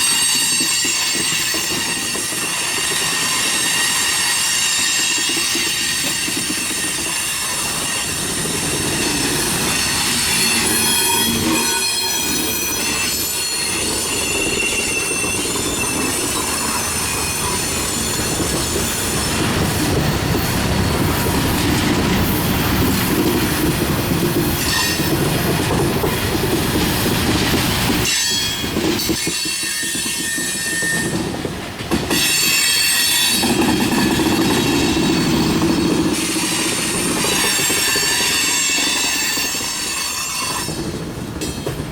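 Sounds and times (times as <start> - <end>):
wheel squeal: 0.0 - 23.4, 24.2 - 26.2, 26.8 - 31.4, 32.1 - 40.9
train wheels clattering on rail: 0.0 - 41.9.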